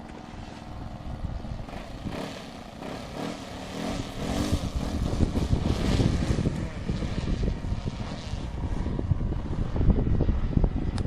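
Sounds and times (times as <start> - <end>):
model airplane engine and propeller: 0.0 - 11.0.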